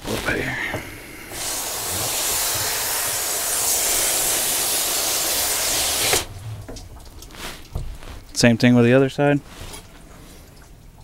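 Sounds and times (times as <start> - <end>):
hose spraying water: 0.0 - 10.6.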